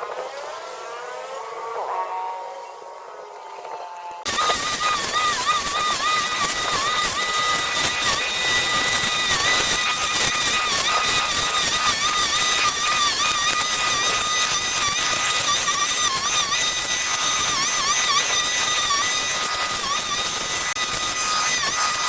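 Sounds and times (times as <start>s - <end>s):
small petrol engine revving: 4.3s - 22.0s.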